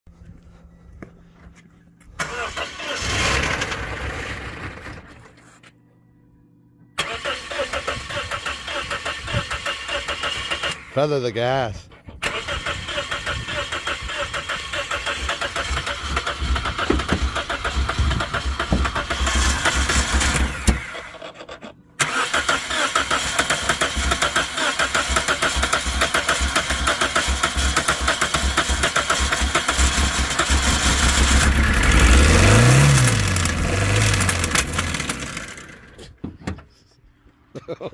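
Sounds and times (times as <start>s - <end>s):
car engine starting: 2.2s - 5.4s, 7.0s - 36.2s.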